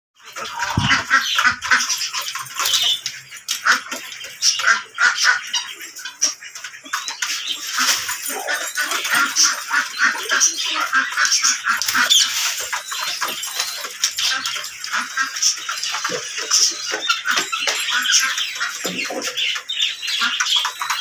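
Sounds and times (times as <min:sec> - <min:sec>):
parakeets squawking: 0:00.2 - 0:21.0.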